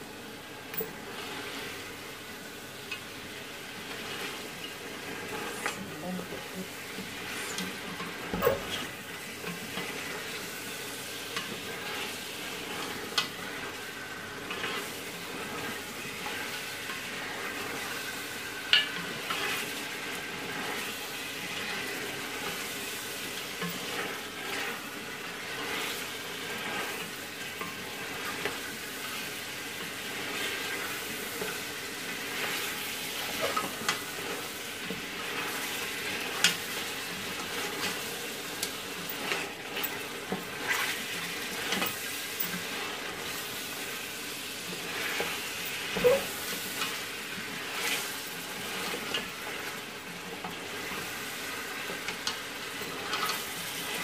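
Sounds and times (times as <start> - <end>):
meat sizzling in hot oil: 0.0 - 54.0.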